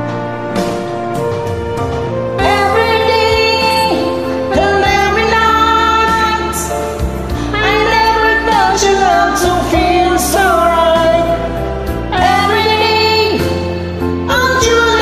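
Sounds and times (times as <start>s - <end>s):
karaoke backing track: 0.0s - 15.0s.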